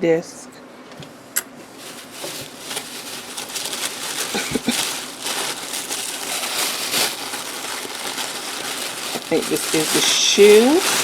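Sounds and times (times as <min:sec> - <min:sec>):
tissue paper crinkling: 0:01.7 - 0:11.0.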